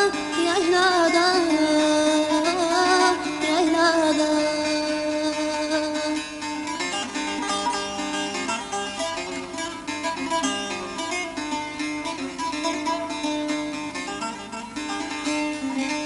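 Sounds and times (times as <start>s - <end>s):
plucked lute notes: 0.0s - 16.0s.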